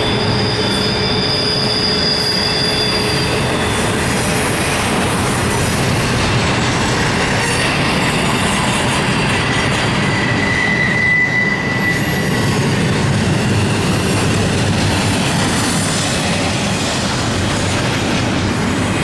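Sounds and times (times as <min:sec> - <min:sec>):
high wheel squeal: 0:00.0 - 0:19.0
train wheels rumbling on rail: 0:00.0 - 0:19.0.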